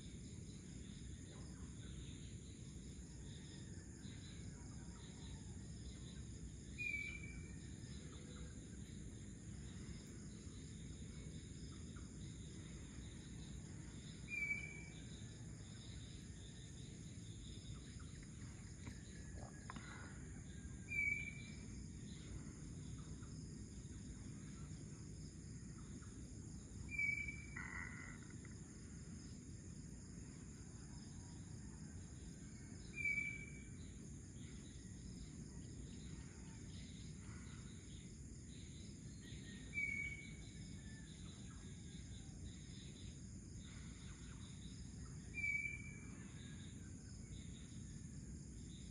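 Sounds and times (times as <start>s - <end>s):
insects chorus: 0.0s - 48.9s.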